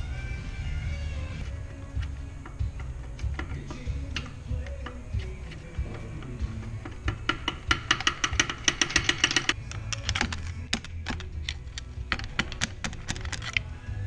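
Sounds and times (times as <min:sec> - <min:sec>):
hand ratchet clicking: 0:02.0 - 0:13.7.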